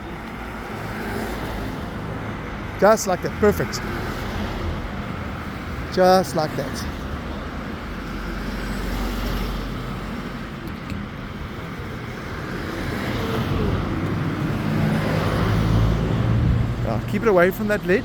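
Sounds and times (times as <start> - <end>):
vehicle engine and tyres: 0.0 - 18.0.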